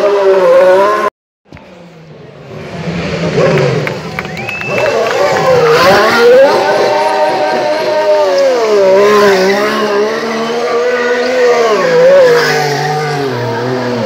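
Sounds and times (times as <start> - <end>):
race car engine revving: 1.7 - 14.0.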